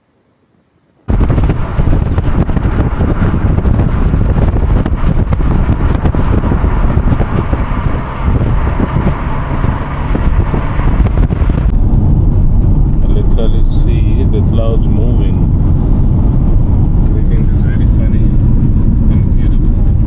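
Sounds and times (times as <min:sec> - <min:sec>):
wind buffeting microphone: 0:01.1 - 0:20.0.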